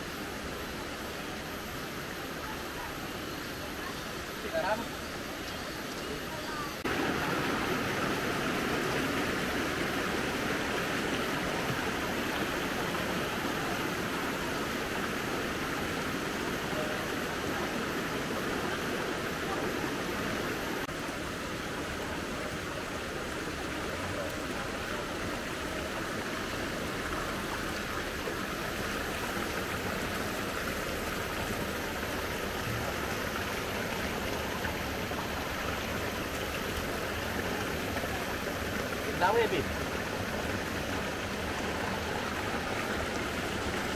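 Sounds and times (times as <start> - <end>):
flowing river water: 0.0 - 43.9.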